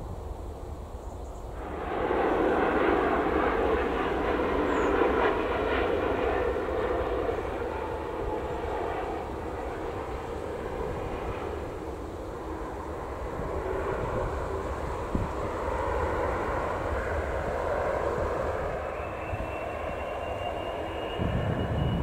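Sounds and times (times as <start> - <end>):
jet airliner engines passing low: 0.0 - 22.0.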